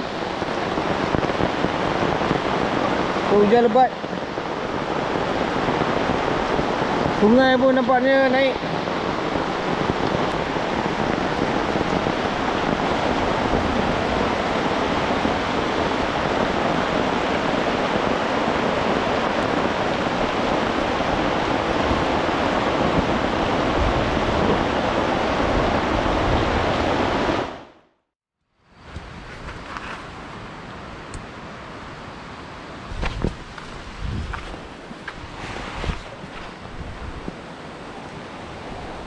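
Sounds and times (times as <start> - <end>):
heavy rain pouring: 0.0 - 27.8, 31.4 - 39.0.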